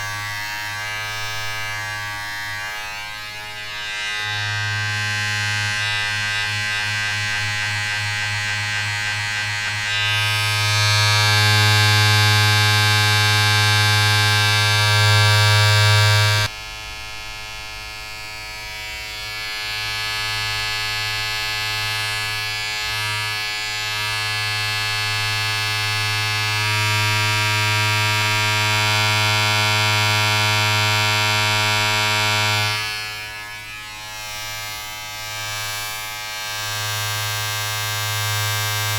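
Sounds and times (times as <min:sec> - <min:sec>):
electric appliance buzzing: 0:00.0 - 0:38.9.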